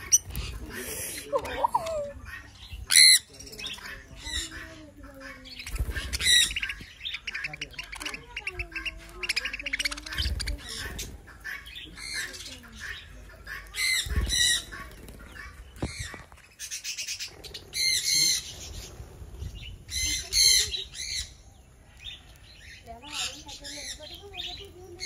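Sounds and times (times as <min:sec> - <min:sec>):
budgerigars chattering: 0:00.0 - 0:25.0.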